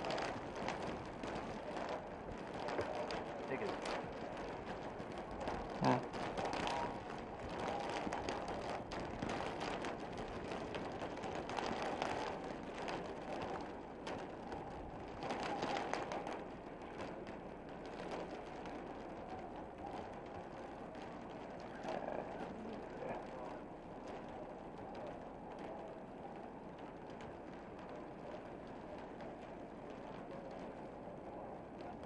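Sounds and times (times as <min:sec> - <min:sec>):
faint ticks: 0:00.0 - 0:32.0
steady outdoor noise: 0:00.0 - 0:32.0.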